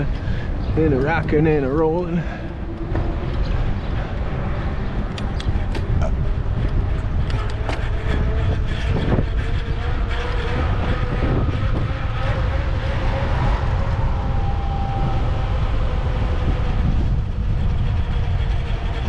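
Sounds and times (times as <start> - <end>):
bicycle tyre rumble: 0.0 - 19.0
wind buffeting microphone: 0.0 - 19.0.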